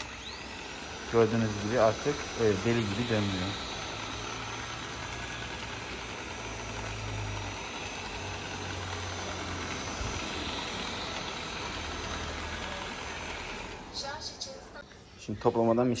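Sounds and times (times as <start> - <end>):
robot vacuum motors whirring: 0.0 - 14.8.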